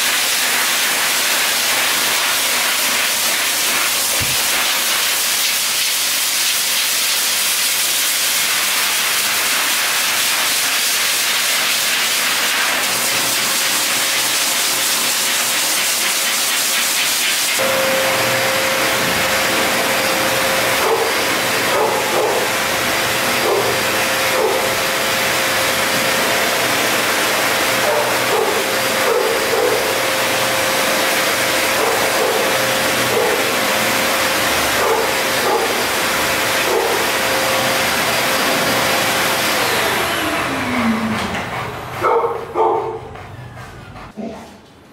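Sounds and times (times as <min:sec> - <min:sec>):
pet blow dryer blasting air: 0:00.0 - 0:43.0.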